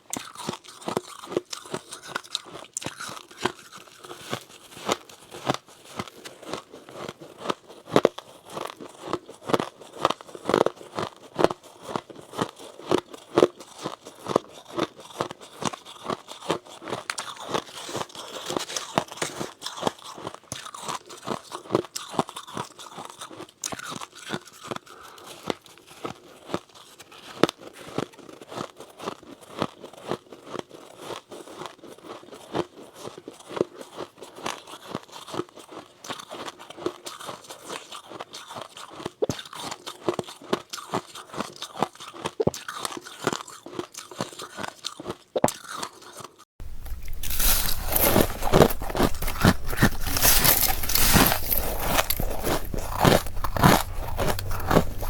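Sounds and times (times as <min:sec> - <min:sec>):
chewing crunchy ice: 0:00.0 - 0:55.0.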